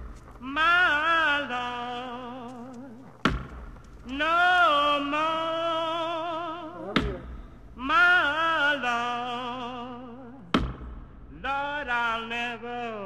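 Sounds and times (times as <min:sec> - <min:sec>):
operatic voice singing: 0:00.4 - 0:03.1, 0:04.1 - 0:10.6, 0:11.3 - 0:13.0.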